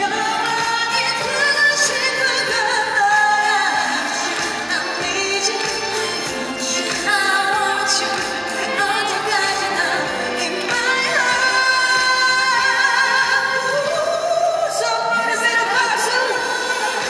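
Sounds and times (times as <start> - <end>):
backing music: 0.0 - 17.0
woman singing into microphone: 0.0 - 17.0.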